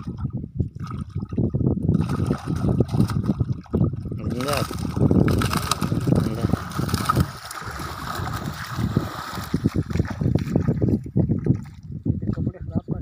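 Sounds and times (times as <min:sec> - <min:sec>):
wind buffeting microphone: 0:00.0 - 0:13.0
water splashing from wading: 0:00.8 - 0:11.9.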